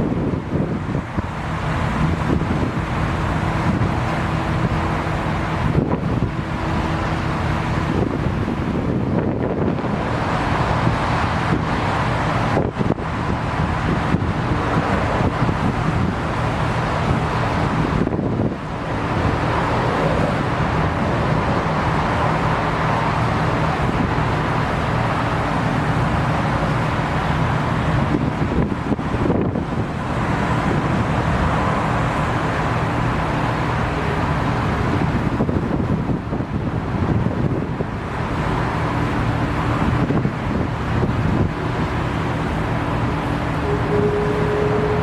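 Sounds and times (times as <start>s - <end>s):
jet aircraft engine hum: 0.0s - 45.0s
wind buffeting microphone: 0.0s - 45.0s.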